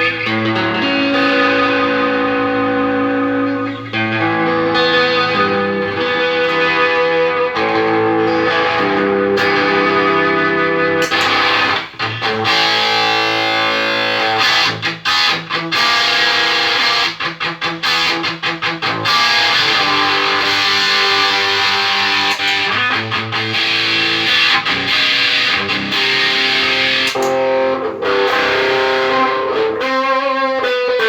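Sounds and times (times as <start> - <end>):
electric guitar chords: 0.0 - 31.0.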